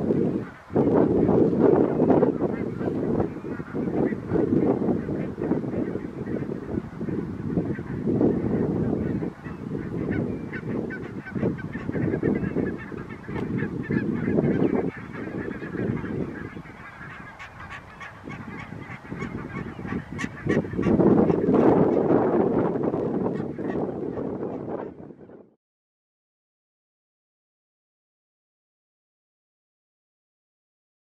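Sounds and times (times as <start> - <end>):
wind noise on microphone: 0.0 - 25.6
geese honking: 0.1 - 25.3.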